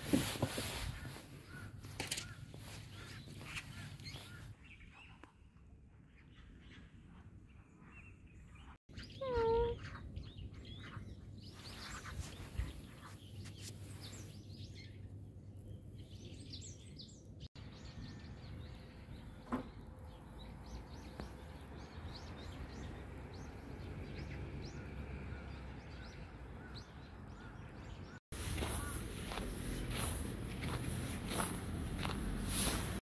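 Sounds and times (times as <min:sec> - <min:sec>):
outdoor background noise: 0:00.0 - 0:33.0
small birds chirping: 0:00.7 - 0:33.0.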